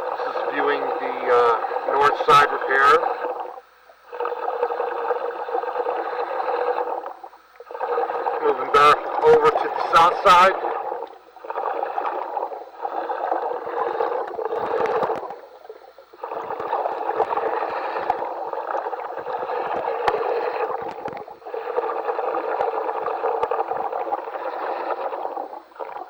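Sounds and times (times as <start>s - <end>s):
diver breathing gas hissing: 0.0s - 26.0s
exhaust bubbles gurgling: 0.0s - 26.0s.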